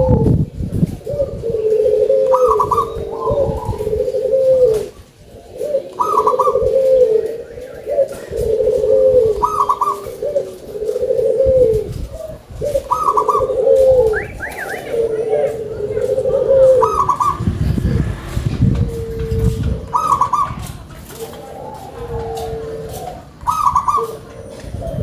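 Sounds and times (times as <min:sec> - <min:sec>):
dove cooing: 0:00.0 - 0:25.0.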